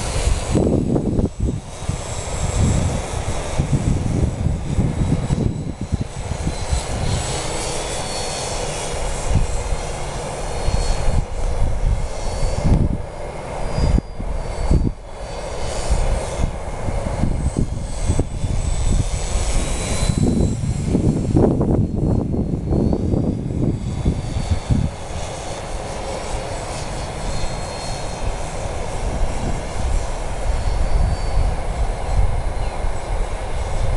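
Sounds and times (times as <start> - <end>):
model plane motor whining: 0.0 - 33.9
wind buffeting microphone: 0.0 - 33.9.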